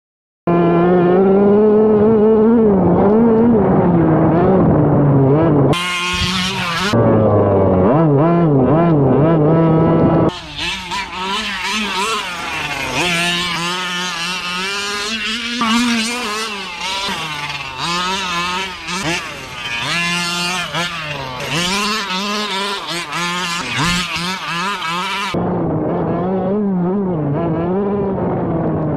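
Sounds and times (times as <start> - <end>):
small two-stroke engine revving: 0.5 - 28.9.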